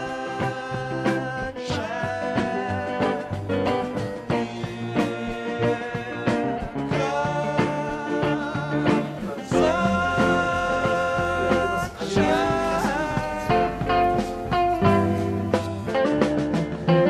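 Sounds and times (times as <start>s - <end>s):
song with steady beat: 0.0s - 17.0s.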